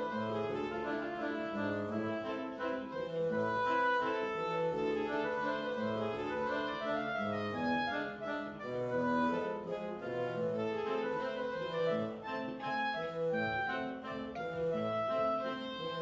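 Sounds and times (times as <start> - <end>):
slow instrumental melody: 0.0 - 16.0.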